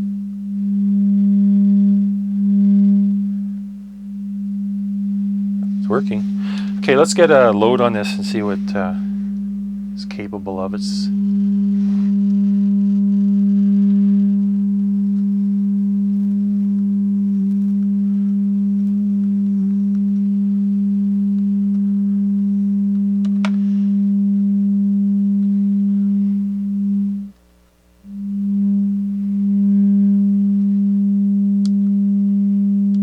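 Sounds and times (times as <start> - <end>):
low sine test tone: 0.0 - 33.0.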